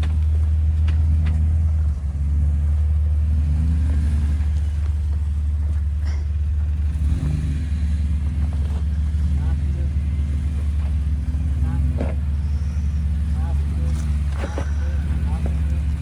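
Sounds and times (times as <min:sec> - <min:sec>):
engine rumbling at low revs: 0:00.0 - 0:16.0.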